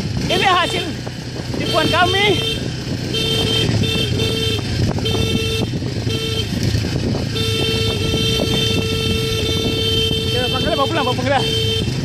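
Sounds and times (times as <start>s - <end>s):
motorcycle engine running: 0.0s - 12.0s
motorcycle horn honking: 0.6s - 1.0s, 1.6s - 12.0s.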